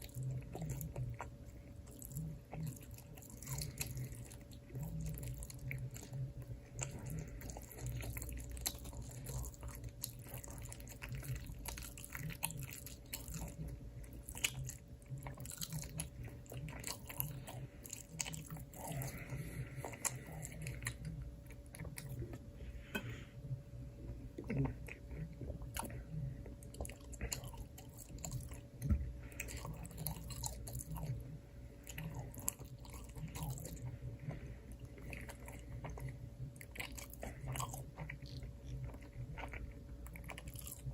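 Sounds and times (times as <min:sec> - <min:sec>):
person chewing crunchy food: 0:00.0 - 0:23.6, 0:24.2 - 0:40.9
faint hum: 0:00.0 - 0:40.9.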